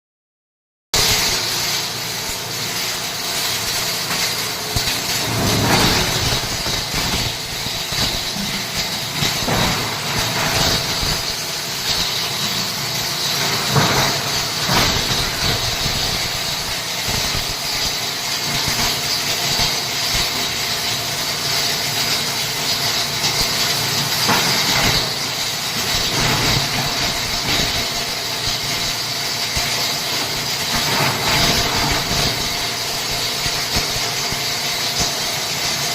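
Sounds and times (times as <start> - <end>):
grinder machine hissing whine: 1.0 - 35.9.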